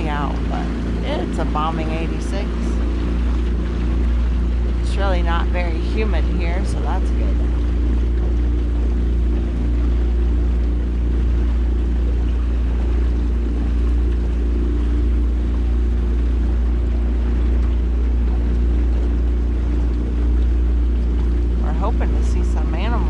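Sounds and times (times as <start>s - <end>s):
outboard motor droning: 0.0s - 23.0s.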